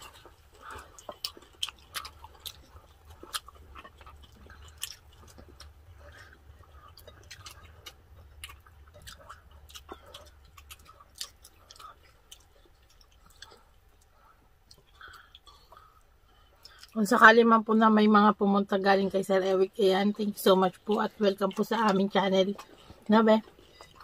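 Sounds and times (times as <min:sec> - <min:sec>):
people chewing crispy food: 0:00.0 - 0:17.3, 0:19.4 - 0:24.0
low steady hum: 0:00.0 - 0:24.0.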